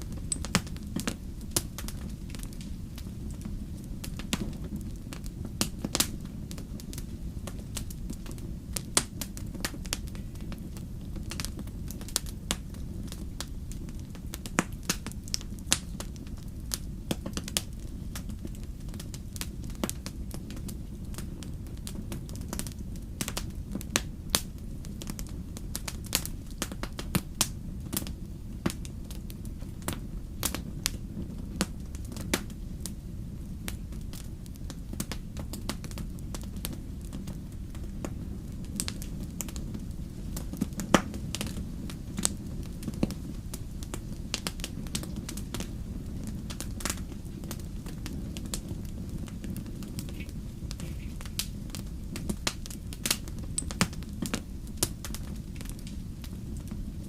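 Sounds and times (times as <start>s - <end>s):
campfire crackling and popping: 0.0s - 57.0s
low fire rumble: 0.0s - 57.0s.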